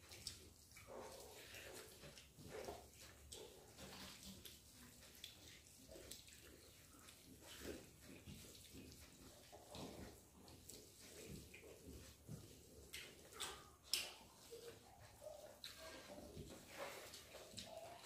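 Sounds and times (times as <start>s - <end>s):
fingers squishing food on plates: 0.0s - 18.0s
mouths chewing: 0.0s - 18.0s.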